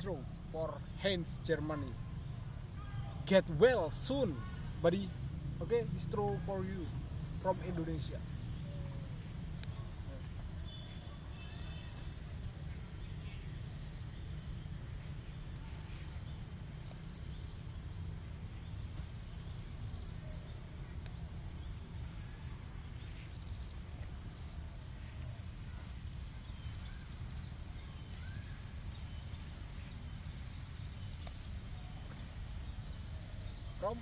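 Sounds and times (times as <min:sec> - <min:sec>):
faint bird chirps: 0:06.2 - 0:34.0.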